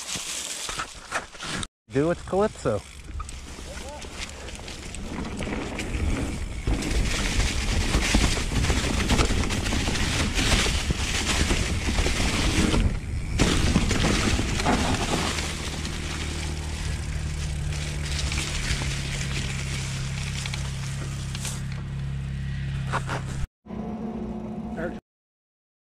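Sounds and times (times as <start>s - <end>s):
bike tyres on dirt trail: 0.0s - 23.5s.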